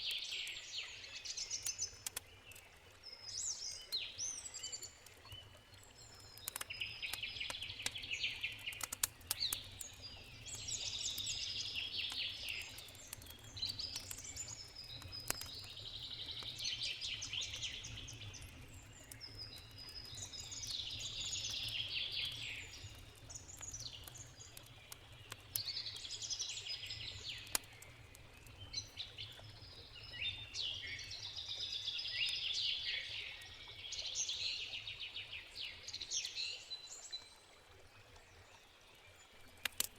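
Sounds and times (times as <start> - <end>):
campfire crackling: 0.0 - 34.0, 39.4 - 39.9
songbird singing: 0.0 - 37.4.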